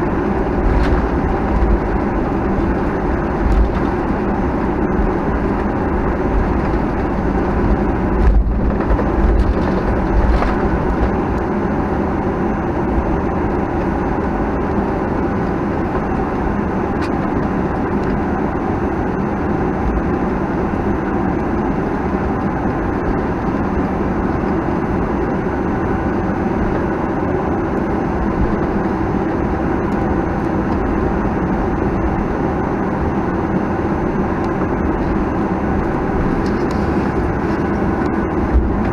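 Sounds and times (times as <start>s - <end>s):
jet engines roaring: 0.0s - 38.9s
wheels rumbling on runway: 0.0s - 38.9s.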